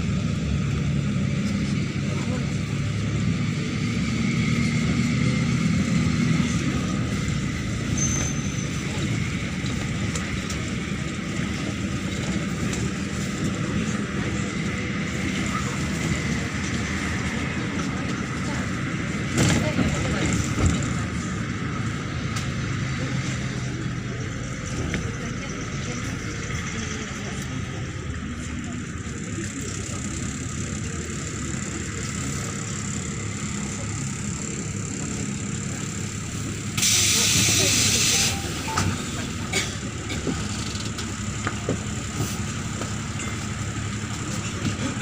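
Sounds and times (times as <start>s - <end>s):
bus engine drone: 0.0s - 45.0s
road and body noise: 0.0s - 45.0s.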